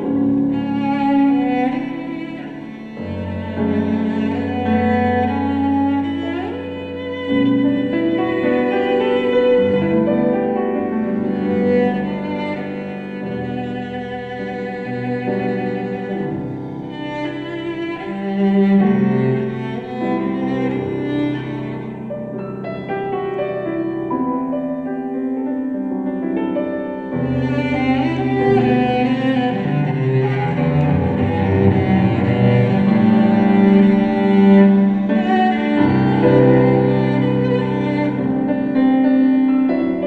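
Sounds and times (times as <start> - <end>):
bowed cello: 0.0 - 40.0
grand piano: 0.0 - 40.0.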